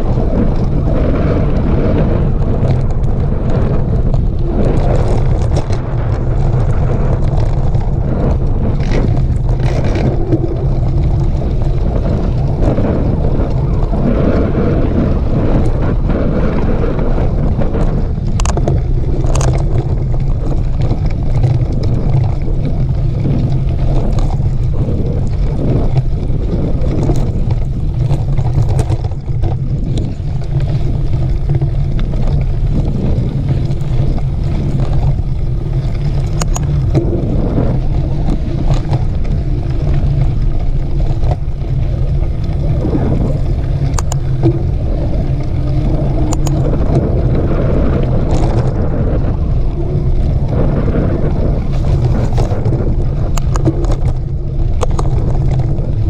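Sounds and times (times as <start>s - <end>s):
bike clicks and rattles: 0.0s - 56.0s
bike tyres on dirt: 0.0s - 56.0s
wind on microphone: 0.0s - 56.0s.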